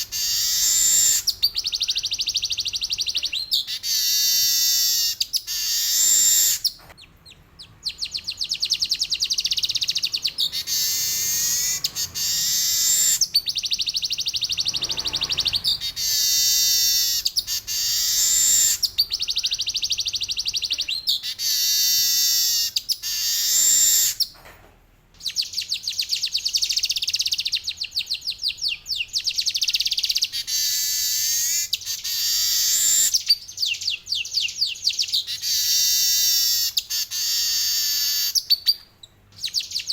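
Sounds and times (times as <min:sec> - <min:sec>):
bird singing high trills: 0:00.0 - 0:24.4, 0:25.2 - 0:39.9.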